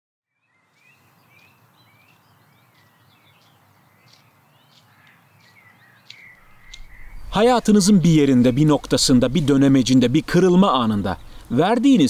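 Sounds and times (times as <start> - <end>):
birds chirping: 0.3 - 12.0
steady outdoor hiss: 0.3 - 12.0.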